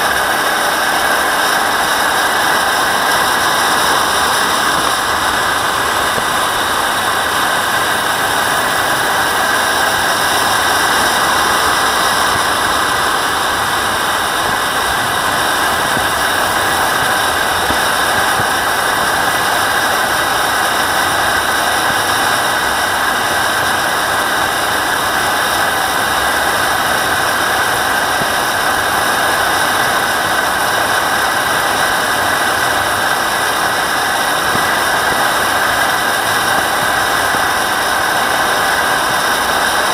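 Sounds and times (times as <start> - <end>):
model jet turbine whine: 0.0 - 39.9.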